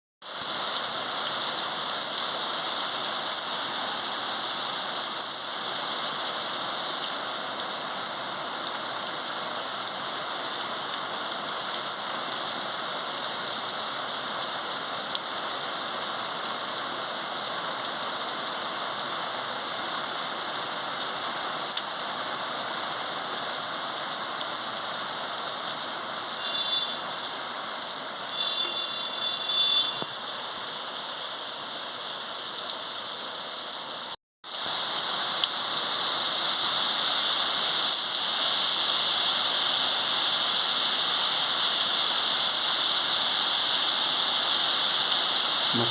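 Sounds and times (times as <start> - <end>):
rain falling: 0.2 - 45.9.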